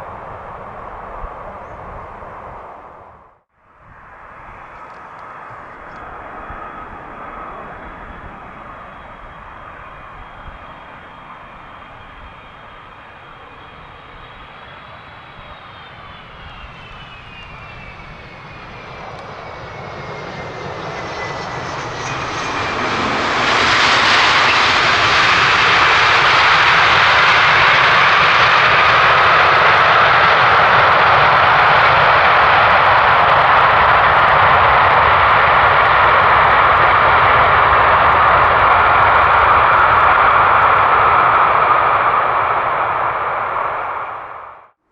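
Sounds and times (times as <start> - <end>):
loud jet engine noise: 0.0 - 44.8.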